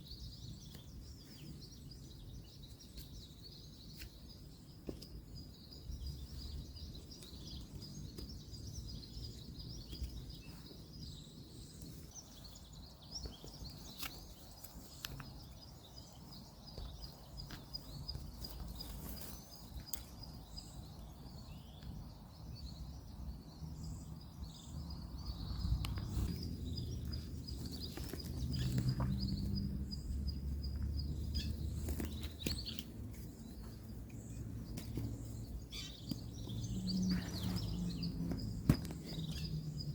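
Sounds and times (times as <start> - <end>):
distant road traffic rumble: 5.5 - 39.9.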